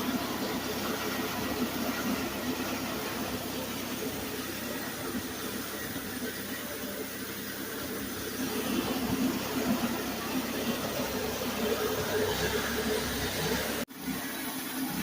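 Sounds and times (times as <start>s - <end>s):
machinery running steadily: 0.0s - 15.0s.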